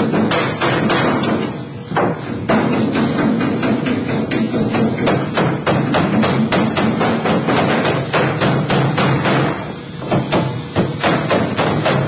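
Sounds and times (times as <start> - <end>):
hammer striking sheet metal: 0.0 - 12.0.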